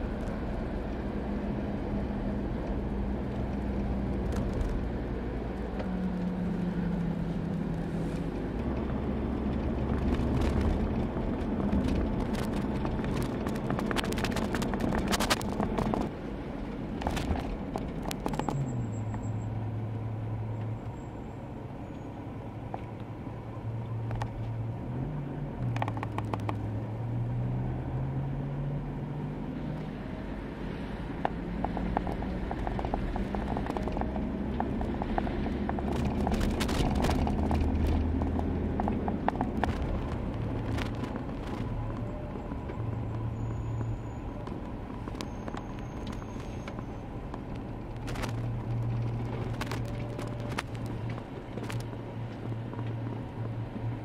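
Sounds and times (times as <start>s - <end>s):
tyres rolling on rough road: 0.0s - 54.0s.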